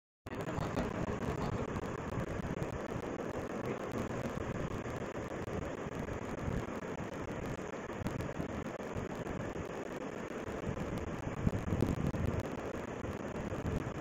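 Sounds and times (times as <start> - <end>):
low rumble with hiss: 0.3 - 14.0.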